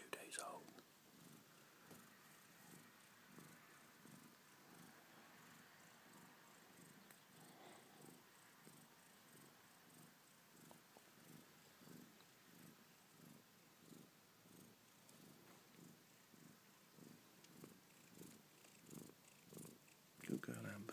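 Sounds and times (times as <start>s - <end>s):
cat purring faintly: 0.0s - 20.9s.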